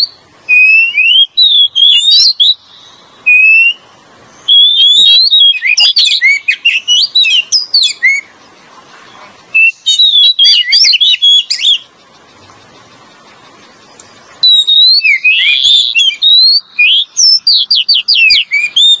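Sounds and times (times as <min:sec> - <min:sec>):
songbird whistling and chirping: 0:00.0 - 0:19.0.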